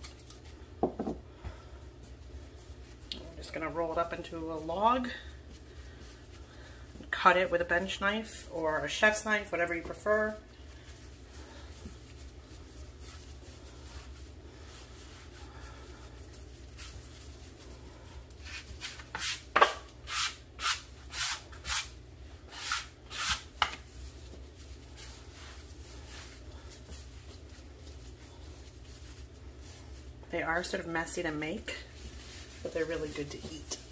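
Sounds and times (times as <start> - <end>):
hands rubbing dough on board: 0.0 - 33.9.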